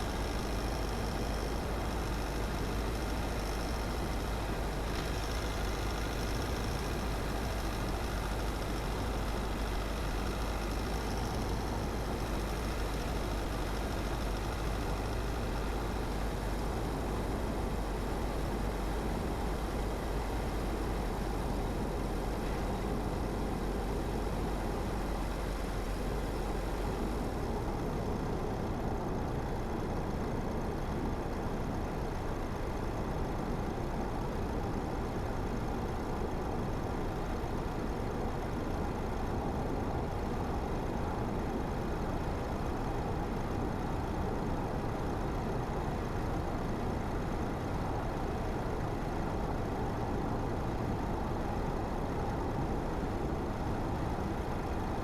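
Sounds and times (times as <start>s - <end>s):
car engine humming: 0.0s - 55.0s
road and tyre noise: 0.0s - 55.0s.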